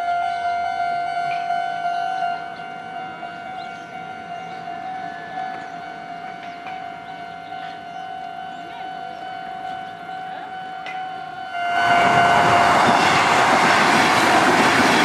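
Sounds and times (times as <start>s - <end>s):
level crossing warning signal: 0.0s - 15.0s
train wheel and rail noise: 0.0s - 15.0s.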